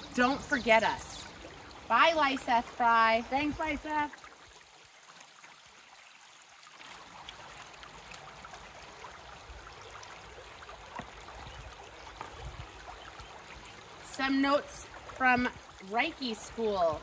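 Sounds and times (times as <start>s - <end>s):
running stream: 0.0s - 17.0s
water trickling from a jug: 0.1s - 17.0s.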